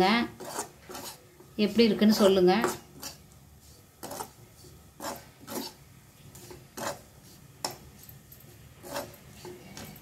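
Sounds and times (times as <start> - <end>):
steel spatula scraping pan: 0.0 - 10.0.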